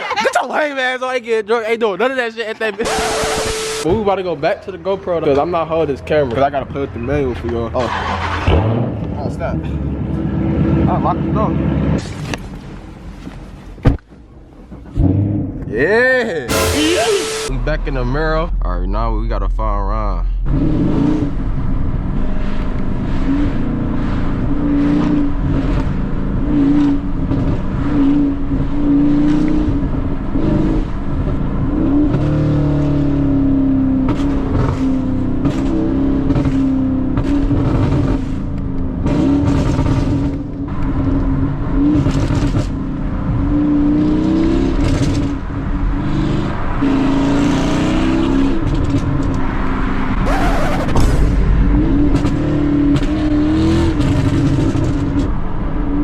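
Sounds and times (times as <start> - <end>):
car engine accelerating and shifting: 2.8 - 13.8, 14.5 - 56.0.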